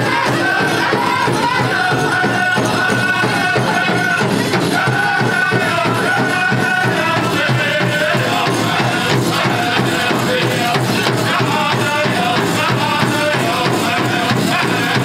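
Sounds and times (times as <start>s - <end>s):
big drum beat: 0.0s - 15.0s
group singing in high voices: 0.0s - 15.0s.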